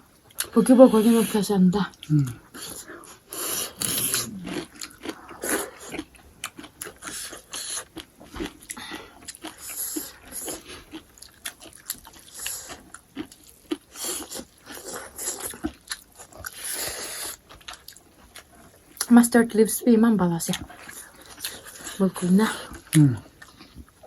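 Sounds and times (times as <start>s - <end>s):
person chewing food: 0.2s - 0.5s, 1.9s - 19.1s, 20.5s - 24.0s.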